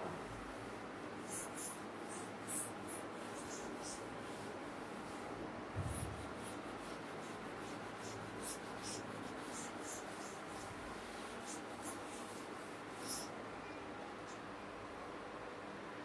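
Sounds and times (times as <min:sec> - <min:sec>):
cloth rubbing chalkboard: 0:00.2 - 0:13.3.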